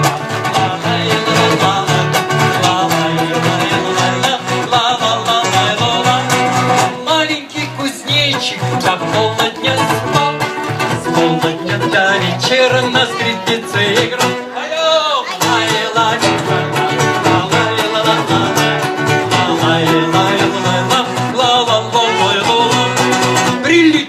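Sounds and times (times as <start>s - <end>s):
plucked guitar accompaniment: 0.0s - 24.0s
voices singing children's song: 0.0s - 24.0s.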